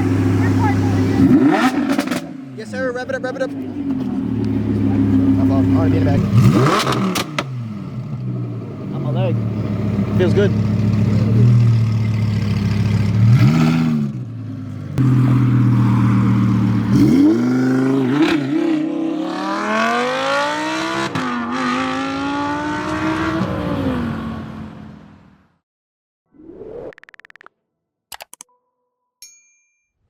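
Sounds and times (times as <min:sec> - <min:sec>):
car engine accelerating: 0:00.0 - 0:25.3.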